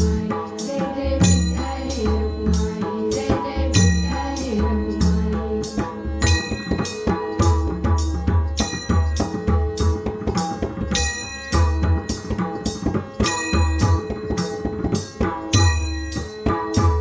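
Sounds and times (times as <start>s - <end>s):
small cymbals: 0.0s - 17.0s.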